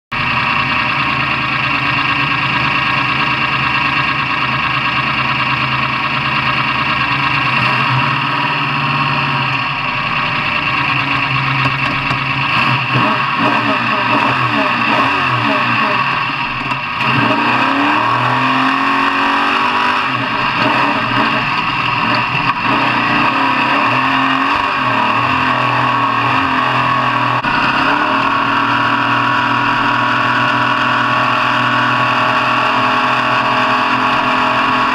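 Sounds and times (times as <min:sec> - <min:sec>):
truck engines revving: 0:00.1 - 0:34.9.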